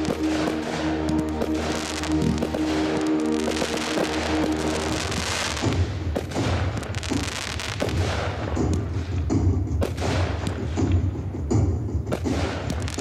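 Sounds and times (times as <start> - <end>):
deep fireworks thumps: 0.0 - 13.0
fireworks bangs: 0.0 - 13.0
fireworks crackling: 0.0 - 13.0.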